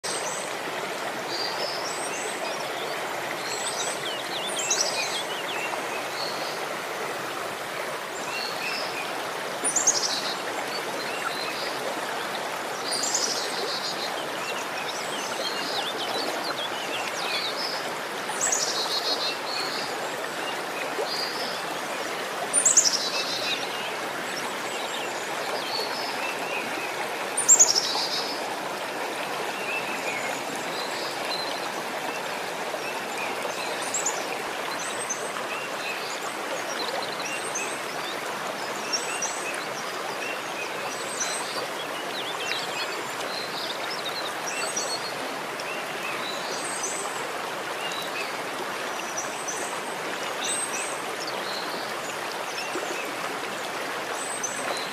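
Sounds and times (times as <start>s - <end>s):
running water rushing: 0.0s - 54.9s.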